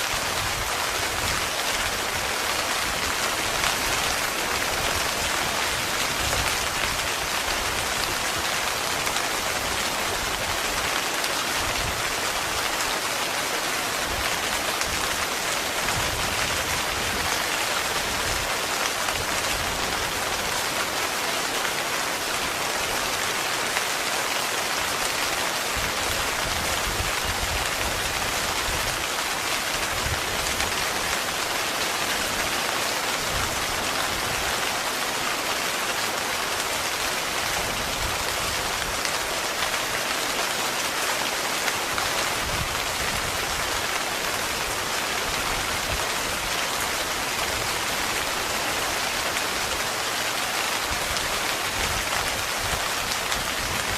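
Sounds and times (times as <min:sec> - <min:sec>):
heavy rain on tent fabric: 0:00.0 - 0:53.9.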